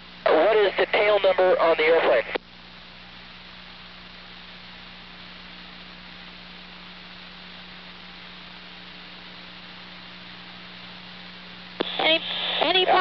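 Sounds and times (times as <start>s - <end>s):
radio static hiss: 0.0s - 13.0s
steady electrical hum: 0.0s - 13.0s.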